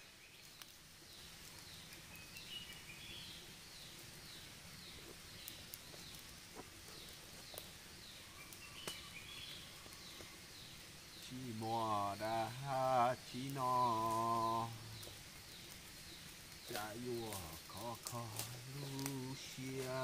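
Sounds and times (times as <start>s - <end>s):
campfire crackles: 0.0s - 20.0s.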